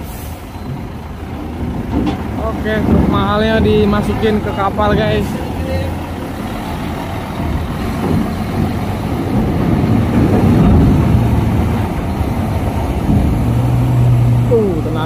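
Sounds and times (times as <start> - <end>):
truck diesel engine under load: 0.0 - 15.0.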